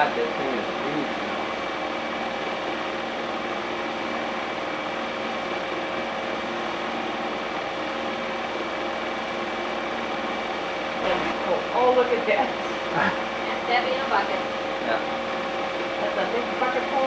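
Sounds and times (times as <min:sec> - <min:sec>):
machine whirring hum: 0:00.0 - 0:17.0.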